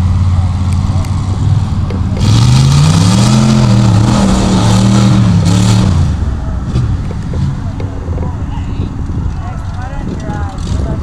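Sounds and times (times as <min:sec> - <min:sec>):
truck engine revving: 0:00.0 - 0:09.8, 0:10.5 - 0:11.0
tires churning through mud: 0:00.0 - 0:11.0.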